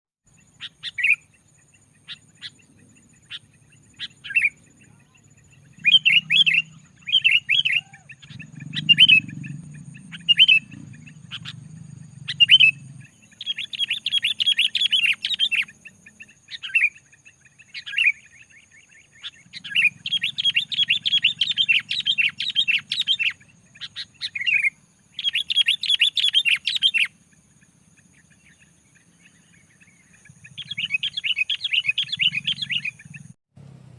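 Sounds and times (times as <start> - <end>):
bulbul chattering song: 0.3 - 33.4.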